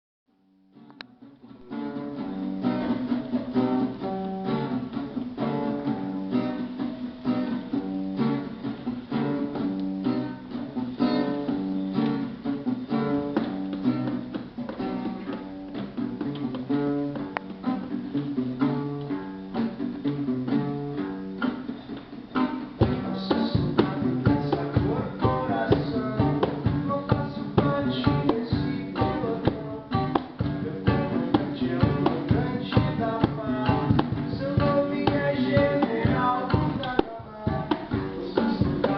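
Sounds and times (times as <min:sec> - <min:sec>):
picked guitar melody: 0:00.3 - 0:38.9
rhythmic guitar strumming: 0:00.3 - 0:38.9.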